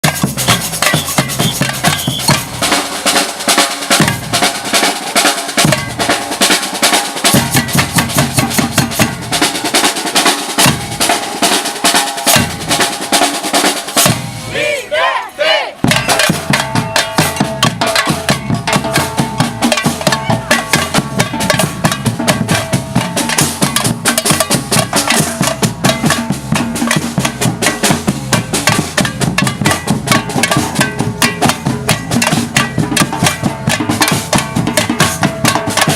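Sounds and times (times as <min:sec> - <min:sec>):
percussion group drumming: 0:00.0 - 0:35.9.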